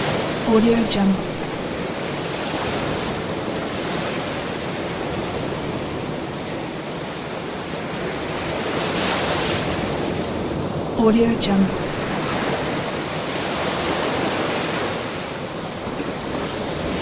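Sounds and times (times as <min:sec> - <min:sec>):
waves breaking: 0:00.0 - 0:17.0.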